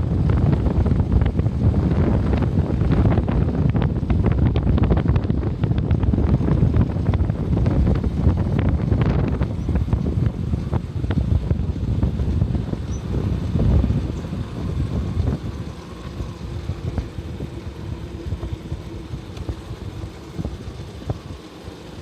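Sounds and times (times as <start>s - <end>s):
road rumble: 0.0s - 22.0s
wind buffeting microphone: 0.0s - 22.0s.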